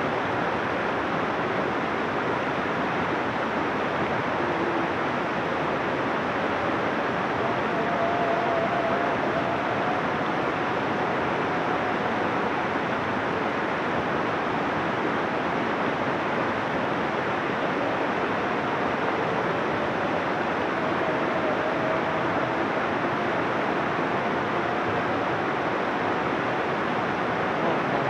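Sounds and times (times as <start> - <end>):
river rushing over rocks: 0.0 - 28.0.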